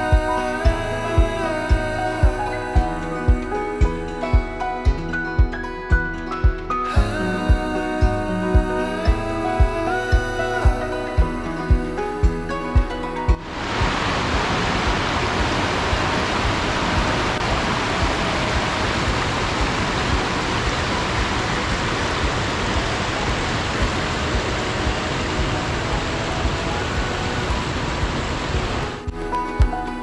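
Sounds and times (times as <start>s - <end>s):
river rushing over rocks: 0.0s - 30.0s.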